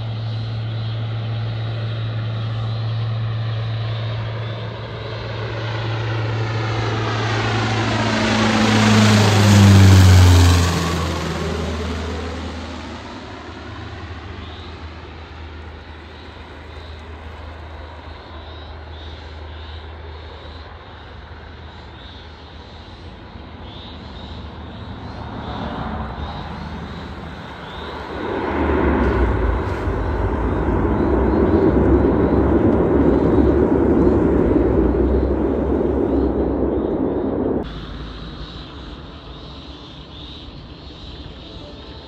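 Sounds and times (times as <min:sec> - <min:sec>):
distant turboprop engines: 0:00.0 - 0:42.0.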